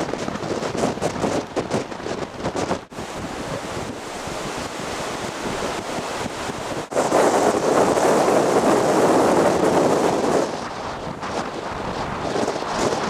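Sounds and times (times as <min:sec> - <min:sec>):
blizzard wind blowing on microphone: 0:00.0 - 0:13.0.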